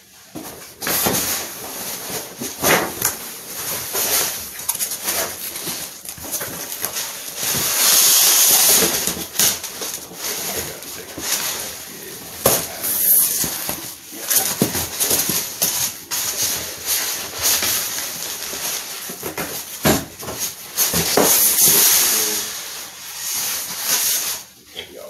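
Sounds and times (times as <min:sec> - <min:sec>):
plastic wrap crinkling: 0:00.1 - 0:24.6.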